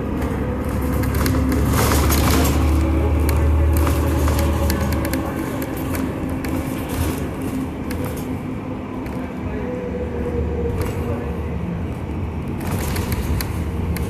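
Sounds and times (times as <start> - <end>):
bus engine drone: 0.0 - 14.0
rattles and clicks: 0.1 - 9.4, 11.9 - 14.0.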